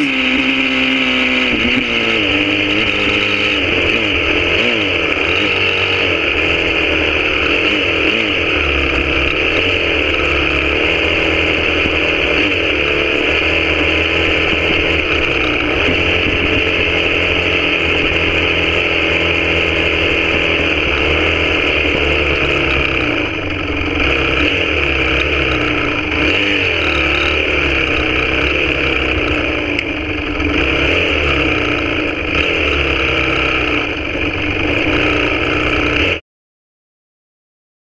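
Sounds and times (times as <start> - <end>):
motocross bike engine revving: 0.0 - 36.2.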